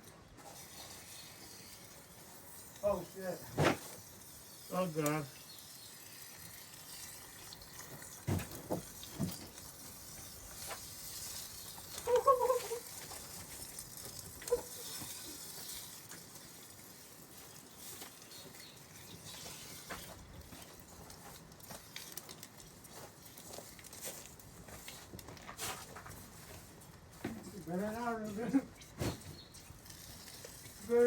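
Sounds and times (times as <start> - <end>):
fluid crackling and sputtering: 0.4 - 26.2, 28.8 - 31.0.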